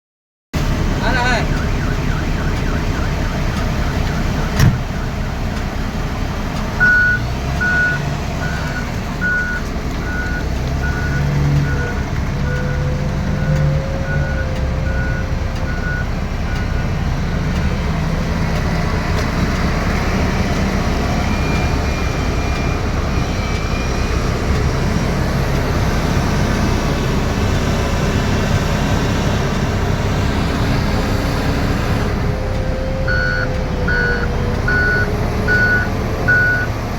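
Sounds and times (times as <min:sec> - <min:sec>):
diesel engine running: 0:00.6 - 0:36.9
reversing alarm beeping: 0:01.2 - 0:06.1, 0:06.8 - 0:27.0, 0:32.3 - 0:36.8.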